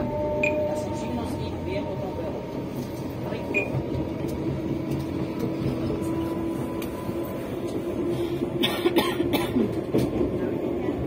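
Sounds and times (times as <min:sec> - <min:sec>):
train drive hum: 0:00.0 - 0:11.0
train wheels rumbling on rails: 0:00.0 - 0:11.0.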